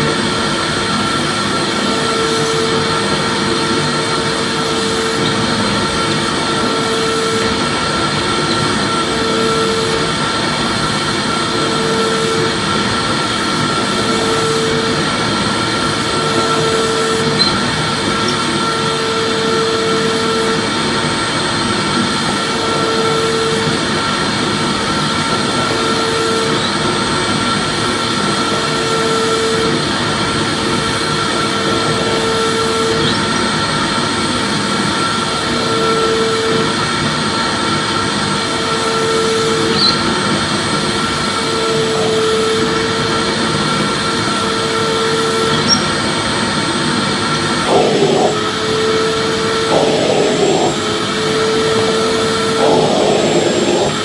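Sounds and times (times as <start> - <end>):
vacuum cleaner motor running: 0.0 - 54.0.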